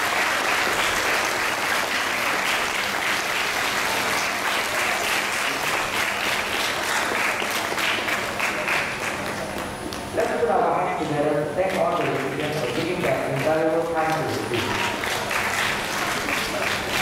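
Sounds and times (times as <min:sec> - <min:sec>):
audience applauding: 0:00.0 - 0:09.7, 0:11.7 - 0:17.0.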